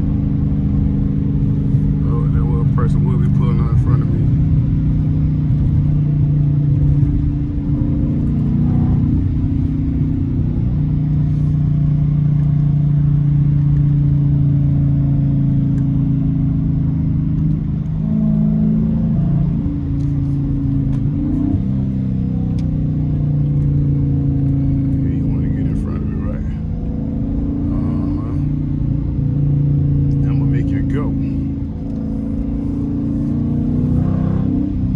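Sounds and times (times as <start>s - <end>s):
car engine exhaust drone: 0.0s - 34.9s.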